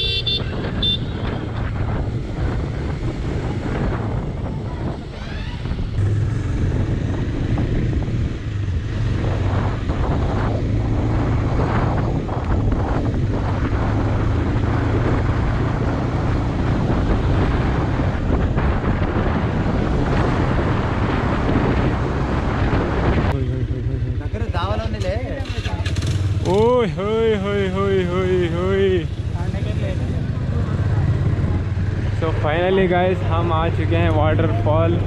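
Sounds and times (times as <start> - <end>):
wind noise on microphone: 0.0 - 24.2, 25.0 - 35.0
motorcycle engine riding: 0.0 - 35.0.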